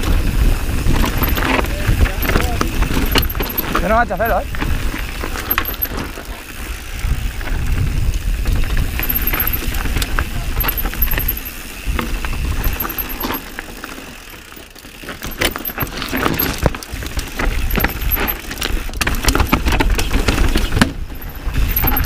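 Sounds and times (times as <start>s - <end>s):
bike chain and frame rattling: 0.0s - 22.0s.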